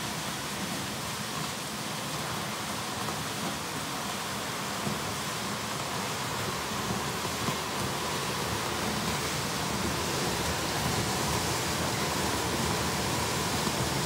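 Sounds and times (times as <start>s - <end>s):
blender churning dry product: 0.0s - 14.0s.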